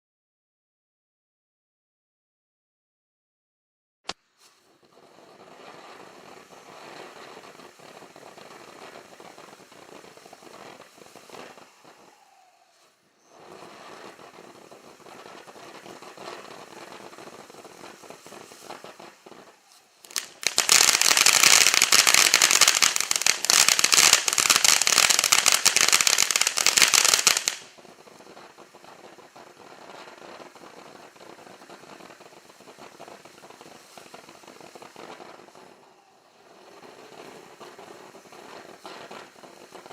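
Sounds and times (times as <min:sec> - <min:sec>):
firework crackling: 0:04.1 - 0:39.9.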